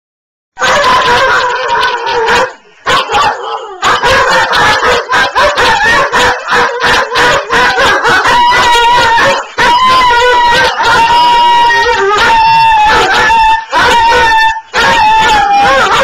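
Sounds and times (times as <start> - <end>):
dogs barking: 0.6 - 16.0
dogs howling: 0.6 - 16.0.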